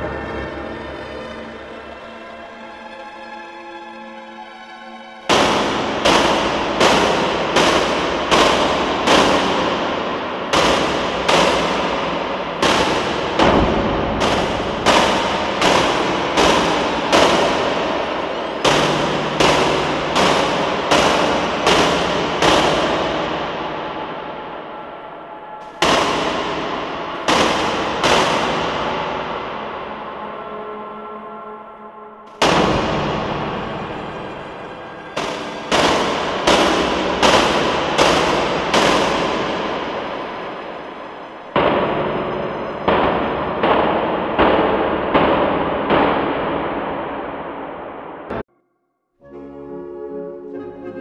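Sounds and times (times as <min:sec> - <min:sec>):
echoing bangs: 0:05.3 - 0:31.0, 0:32.3 - 0:48.5.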